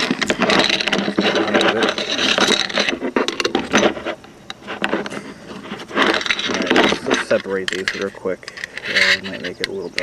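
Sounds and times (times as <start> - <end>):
metal parts scraping and knocking: 0.0 - 10.0.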